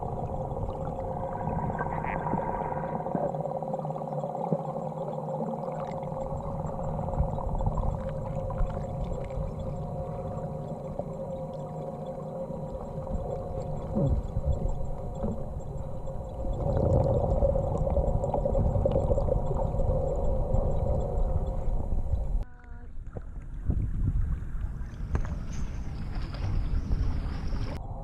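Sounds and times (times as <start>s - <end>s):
low underwater rumble: 0.0s - 28.0s
underwater hum with held tones: 0.0s - 28.0s.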